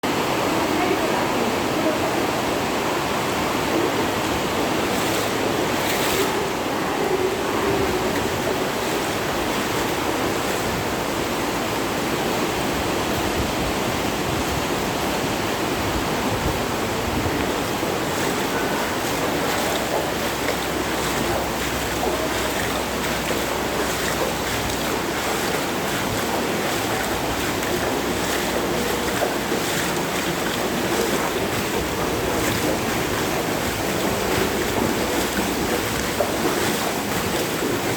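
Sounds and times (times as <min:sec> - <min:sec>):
flood water rushing: 0:00.0 - 0:37.9.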